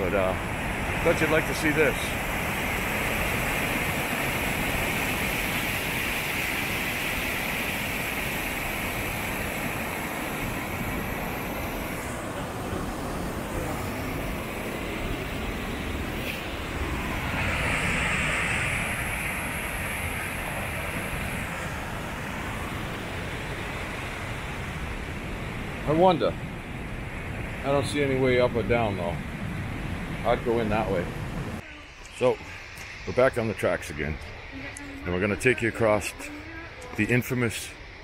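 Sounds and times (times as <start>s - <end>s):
waterfall roaring: 0.0s - 37.6s.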